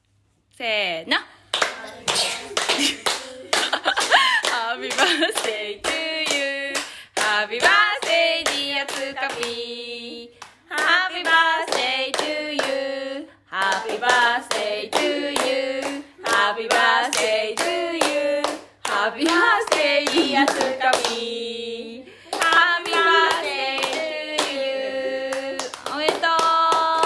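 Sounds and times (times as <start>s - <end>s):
hands clapping a steady beat: 1.6s - 9.6s, 10.3s - 12.8s, 13.6s - 21.3s, 22.3s - 27.0s
group singing: 1.6s - 27.0s.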